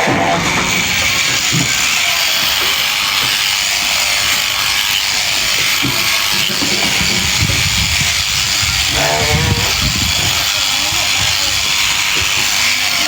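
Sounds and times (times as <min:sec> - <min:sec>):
electric clippers shearing fleece: 0:00.0 - 0:13.0.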